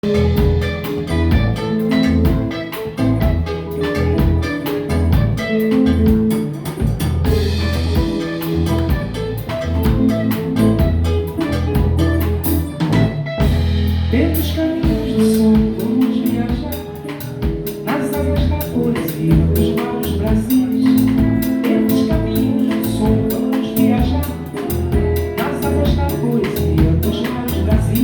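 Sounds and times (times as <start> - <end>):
acoustic guitar: 0.0 - 28.0
drum kit: 0.0 - 28.0
electric bass: 0.0 - 28.0.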